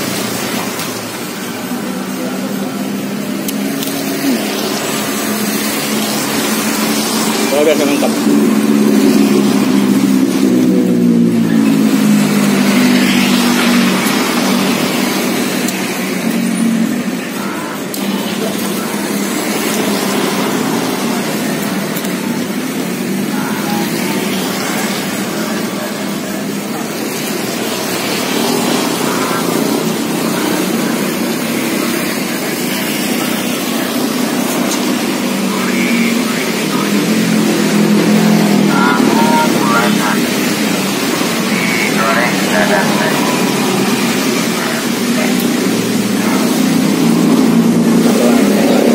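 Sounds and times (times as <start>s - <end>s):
tyres on road: 0.0s - 48.9s
vehicle engine humming: 0.0s - 48.9s.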